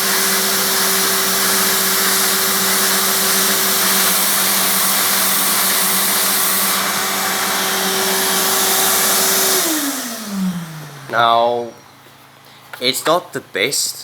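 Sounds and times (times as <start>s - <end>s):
vacuum motor spinning down: 0.0s - 11.6s
vacuum cleaner motor running: 0.0s - 11.8s.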